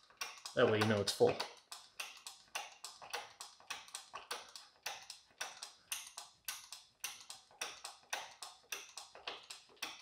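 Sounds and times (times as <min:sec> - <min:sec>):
hand oil pump clicking strokes: 0:00.0 - 0:10.0.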